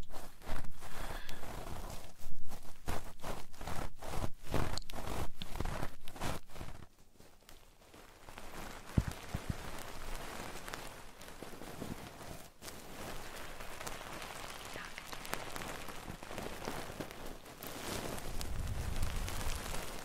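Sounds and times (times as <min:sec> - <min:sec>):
hands rubbing microphone: 0:00.0 - 0:20.0.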